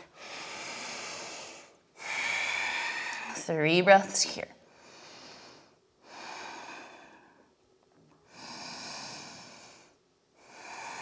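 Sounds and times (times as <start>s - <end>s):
woman breathing deeply: 0.0s - 3.5s, 4.6s - 7.6s, 8.2s - 11.0s.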